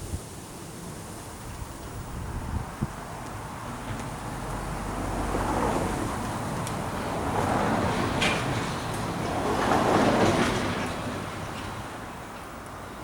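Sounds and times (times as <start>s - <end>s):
passing vehicles rushing: 0.3s - 13.0s.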